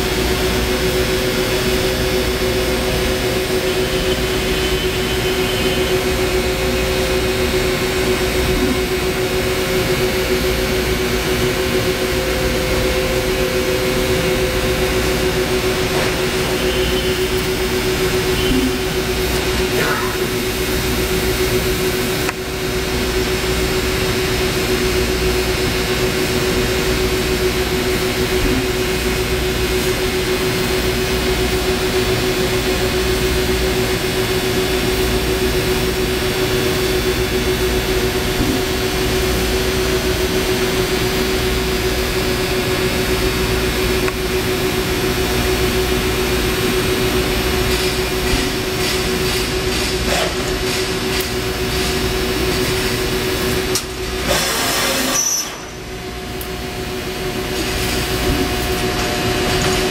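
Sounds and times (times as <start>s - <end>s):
laser cutting machine humming: 0.0s - 59.9s.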